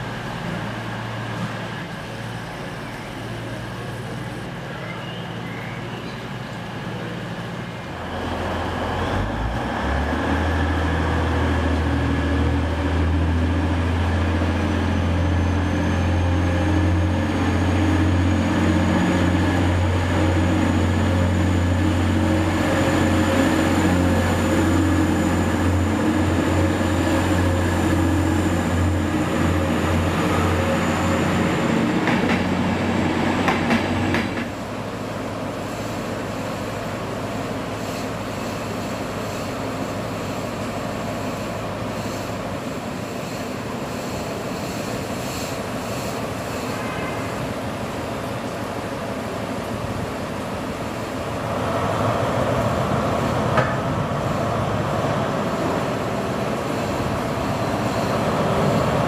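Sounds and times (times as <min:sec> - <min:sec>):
diesel train engine droning: 0:00.0 - 0:59.0
train coaches rumbling past: 0:00.0 - 0:59.0.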